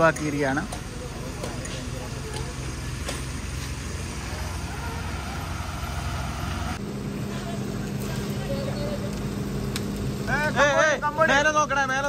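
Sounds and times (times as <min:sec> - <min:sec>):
heavy vehicle engine running: 0:00.0 - 0:10.3.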